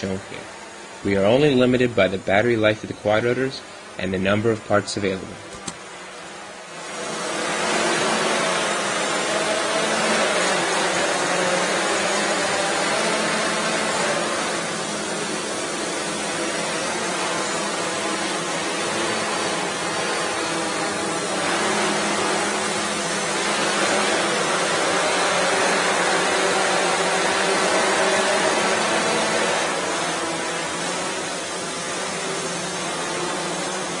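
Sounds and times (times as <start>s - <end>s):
drone propellers whirring: 0.0s - 34.0s.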